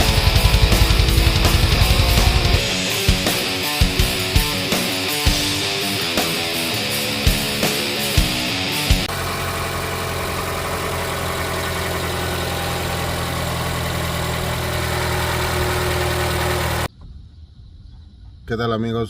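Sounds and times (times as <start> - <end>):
car engine idling: 0.0 - 16.9
rock guitar music: 0.0 - 16.9.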